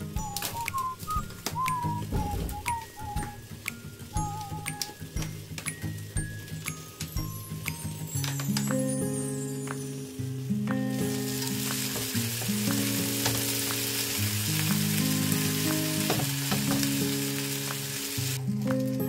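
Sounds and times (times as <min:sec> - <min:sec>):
dumplings sizzling in oil: 0:00.0 - 0:19.0
soft background music: 0:00.0 - 0:19.0.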